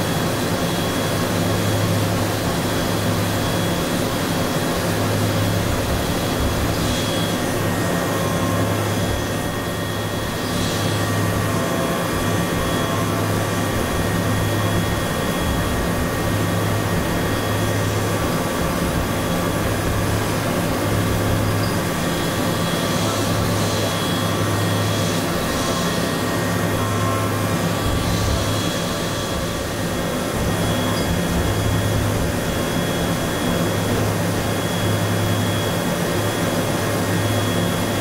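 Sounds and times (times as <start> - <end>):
machine spindle humming: 0.0 - 38.0.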